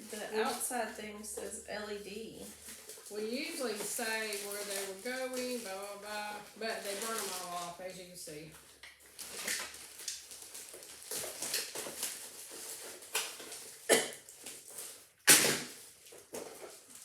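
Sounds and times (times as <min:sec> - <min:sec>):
packaging rustling and scraping: 0:00.0 - 0:17.0.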